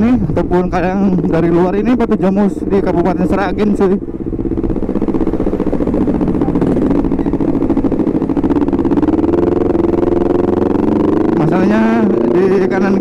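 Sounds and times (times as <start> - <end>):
motorcycle engine riding: 0.0 - 13.0.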